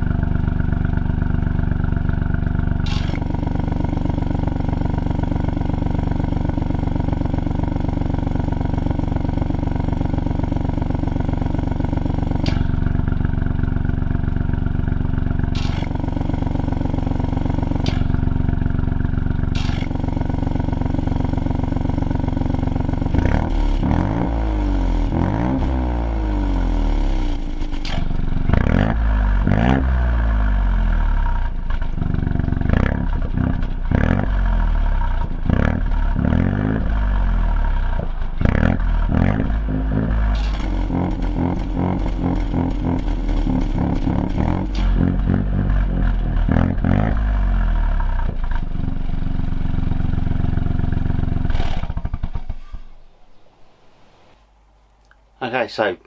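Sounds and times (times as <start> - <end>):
car engine idling: 0.0 - 55.2
car engine revving: 2.1 - 55.1.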